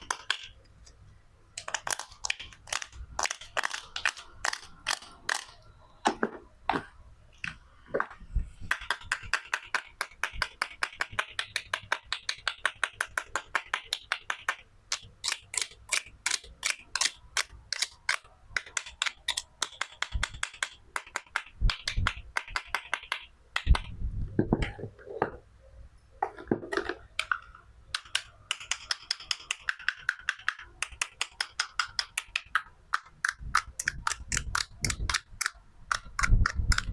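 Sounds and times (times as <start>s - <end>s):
toy pieces clicking and tapping: 0.0s - 0.7s, 1.6s - 5.6s, 8.7s - 24.0s, 26.8s - 36.9s.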